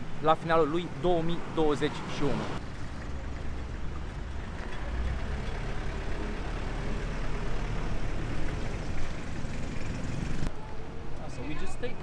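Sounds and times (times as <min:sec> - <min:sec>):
diesel engines rumbling: 0:00.0 - 0:10.5.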